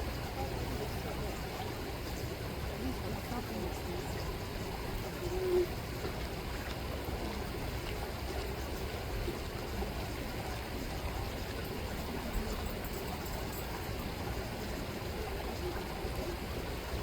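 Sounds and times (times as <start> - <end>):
river water rippling and flowing: 0.0 - 17.0.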